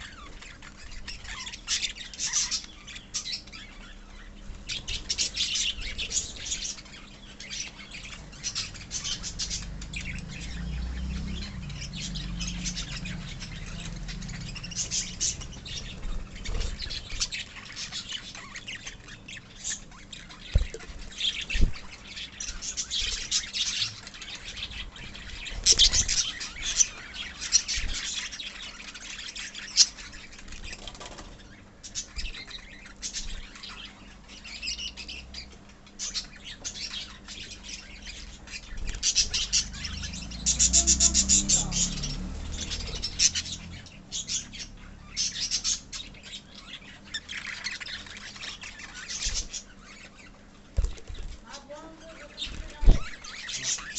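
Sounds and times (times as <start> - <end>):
lovebirds chirping and squawking: 0.0 - 53.9.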